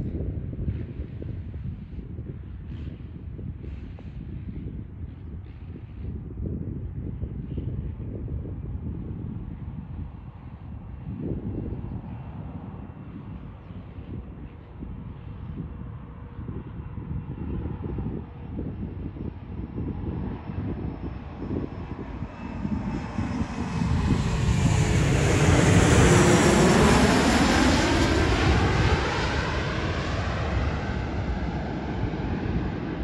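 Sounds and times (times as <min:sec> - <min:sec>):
airliner engines passing: 0:00.0 - 0:33.0.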